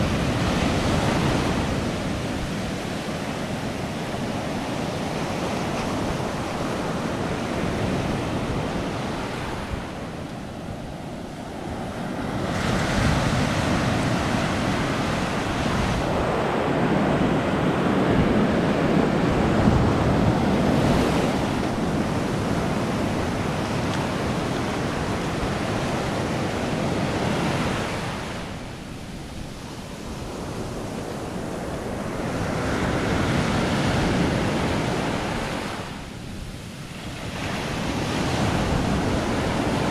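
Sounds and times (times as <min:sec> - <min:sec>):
surf waves washing on sand: 0:00.0 - 0:39.9.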